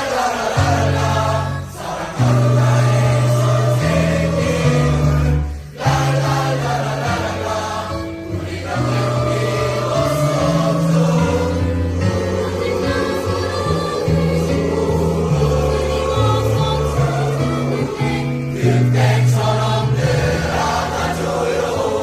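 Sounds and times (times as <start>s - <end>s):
choir singing with accompaniment: 0.0s - 22.0s.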